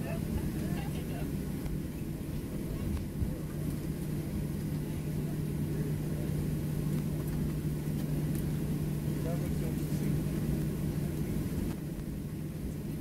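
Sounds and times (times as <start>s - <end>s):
airplane cabin engine drone: 0.0s - 13.0s.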